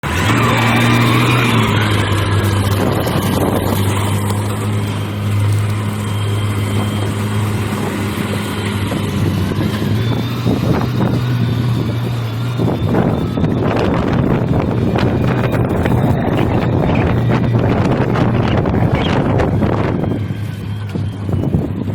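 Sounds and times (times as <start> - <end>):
sawmill machinery humming: 0.0 - 21.9.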